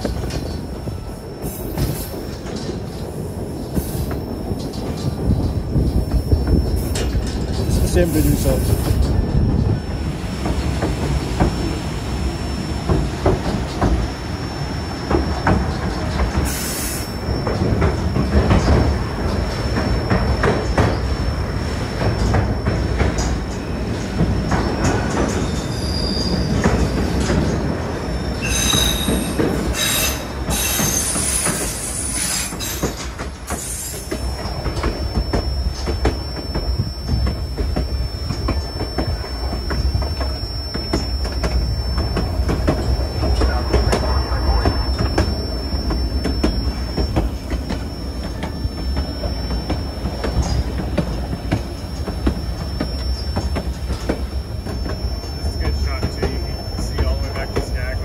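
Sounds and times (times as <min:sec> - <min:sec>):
train cars rumbling on track: 0:00.0 - 0:58.0
wheels squealing on rails: 0:00.0 - 0:58.0.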